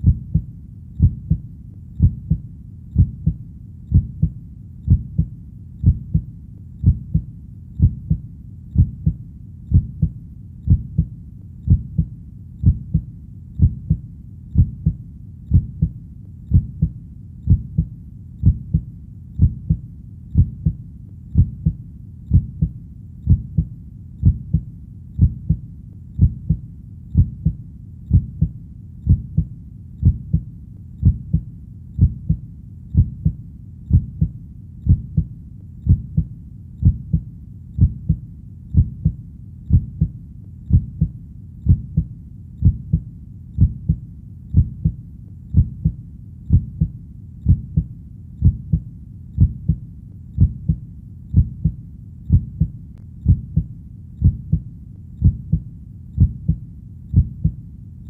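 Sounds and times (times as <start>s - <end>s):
heartbeat thumping: 0.0s - 25.6s, 26.2s - 49.8s, 50.4s - 57.6s.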